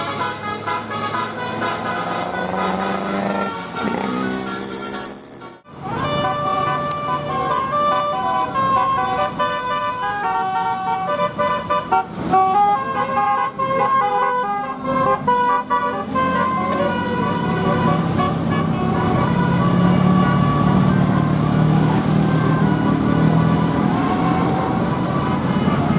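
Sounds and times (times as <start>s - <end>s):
bus engine running: 0.0s - 25.9s
multi-tone bus horn tune: 0.0s - 25.9s.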